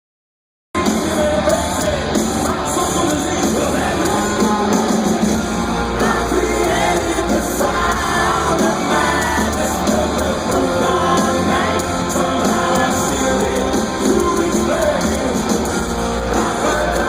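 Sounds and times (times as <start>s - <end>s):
live hard rock band: 0.8s - 17.0s.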